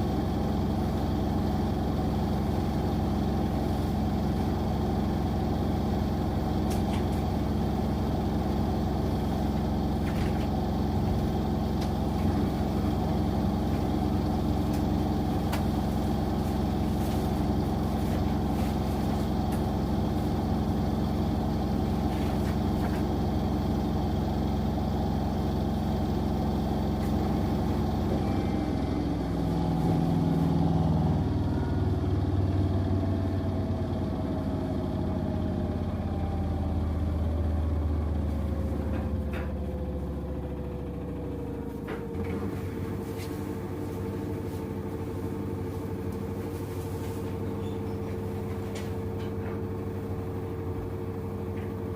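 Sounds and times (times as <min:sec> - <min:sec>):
washing machines spinning: 0:00.0 - 0:51.9.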